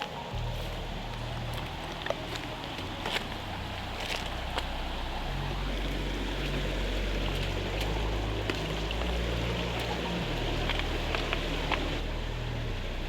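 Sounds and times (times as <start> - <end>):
waterfall rushing: 0.0 - 12.0
background music bass line: 0.0 - 13.0.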